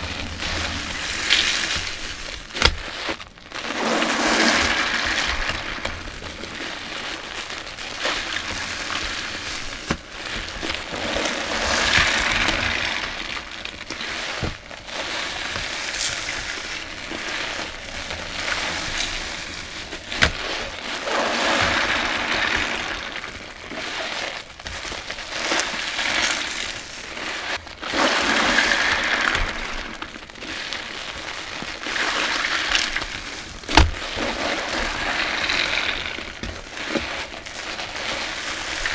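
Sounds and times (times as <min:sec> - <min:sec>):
sponge squelching in suds: 0:00.0 - 0:38.9.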